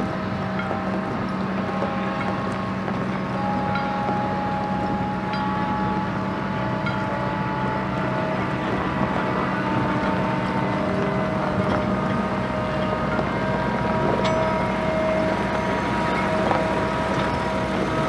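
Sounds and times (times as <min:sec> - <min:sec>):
diesel engines droning: 0:00.0 - 0:18.0.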